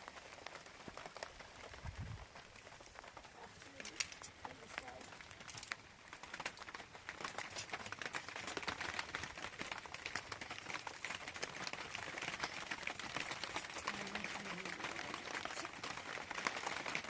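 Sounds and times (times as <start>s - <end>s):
rain drops hitting a surface: 0.0s - 17.0s.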